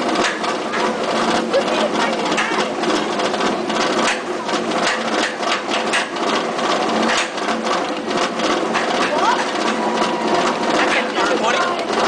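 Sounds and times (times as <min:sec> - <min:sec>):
lift-hill chain clatter: 0:00.0 - 0:12.0.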